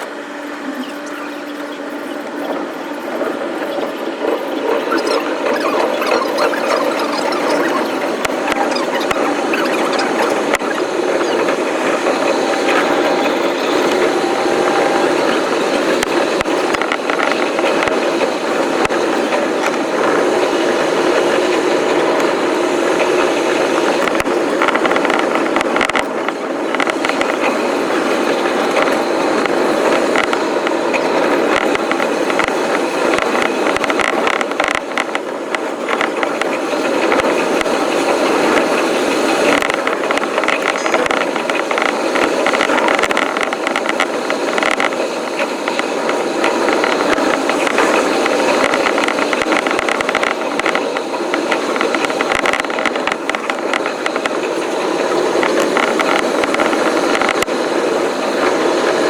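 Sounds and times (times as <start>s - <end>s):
train running rumble: 0.0s - 59.0s
wheel and rail clicks: 0.0s - 59.0s.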